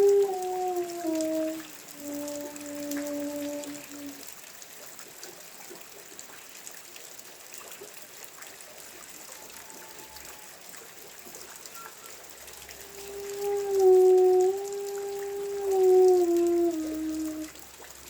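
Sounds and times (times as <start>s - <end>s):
drips pattering: 0.0s - 18.0s
rain falling: 0.0s - 18.0s.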